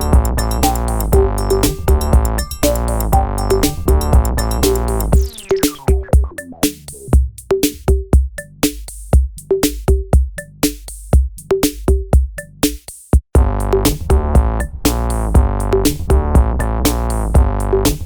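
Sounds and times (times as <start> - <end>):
electronic music with drum-machine beat: 0.0 - 18.0.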